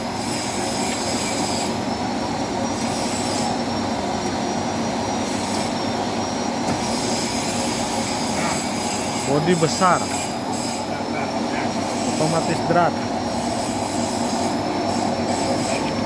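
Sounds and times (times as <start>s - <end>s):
lathe whirring with high whine: 0.0s - 16.0s.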